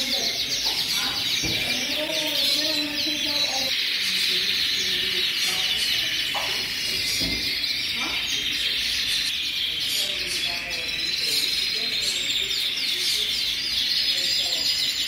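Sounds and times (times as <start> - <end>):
canaries singing: 0.0 - 15.0.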